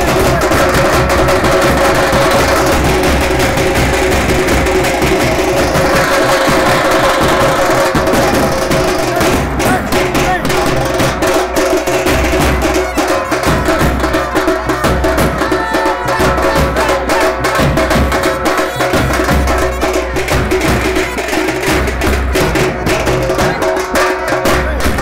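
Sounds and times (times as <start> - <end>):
steady held tones: 0.0 - 20.3
drums playing fast rhythm: 0.0 - 25.0.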